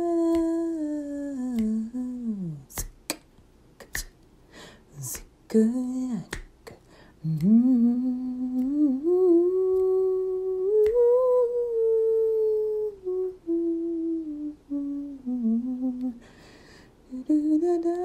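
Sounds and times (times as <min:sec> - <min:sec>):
person humming a slow tune: 0:00.0 - 0:03.0, 0:04.9 - 0:16.3, 0:17.0 - 0:18.0.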